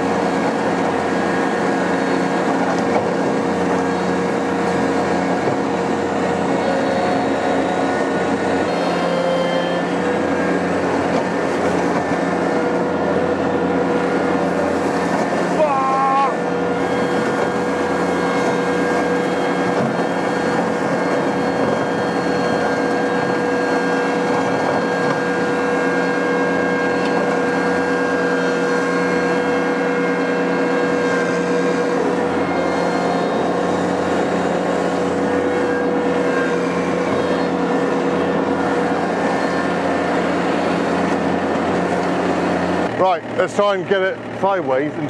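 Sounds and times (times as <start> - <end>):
tractor engine running under load: 0.0 - 45.0.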